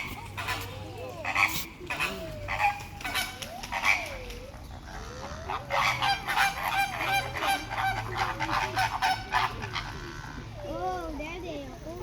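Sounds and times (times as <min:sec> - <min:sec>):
birds calling: 0:00.0 - 0:10.7.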